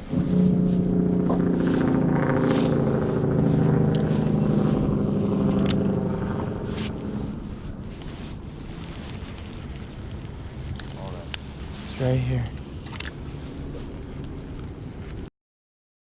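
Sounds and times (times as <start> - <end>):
engine humming: 0.0 - 15.3.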